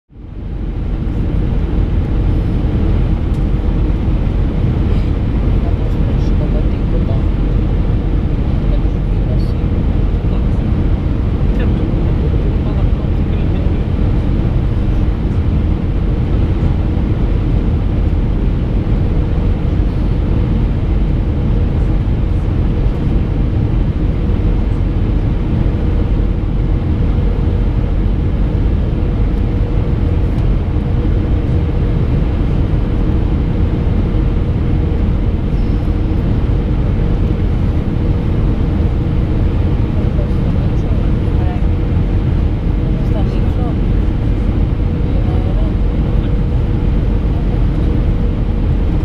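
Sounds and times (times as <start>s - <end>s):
airplane cabin engine rumble: 0.1s - 49.0s.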